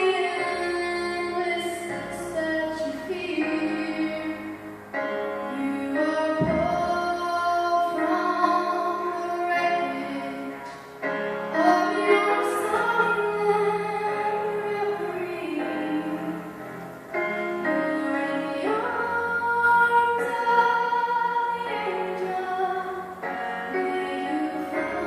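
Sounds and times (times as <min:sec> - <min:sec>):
woman singing slow song: 0:00.0 - 0:04.7, 0:05.4 - 0:10.7, 0:11.4 - 0:16.6, 0:17.5 - 0:25.0
musical accompaniment: 0:00.0 - 0:25.0.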